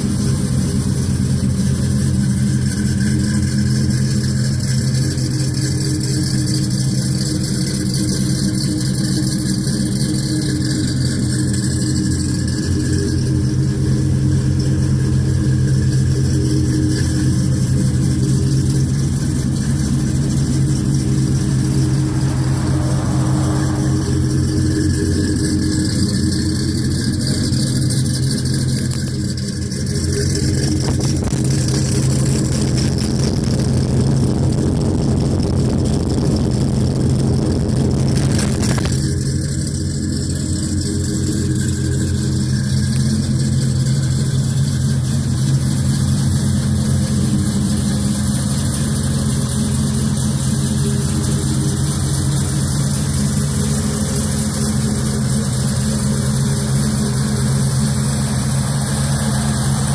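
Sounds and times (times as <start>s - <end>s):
truck engine running steadily: 0.0s - 59.9s.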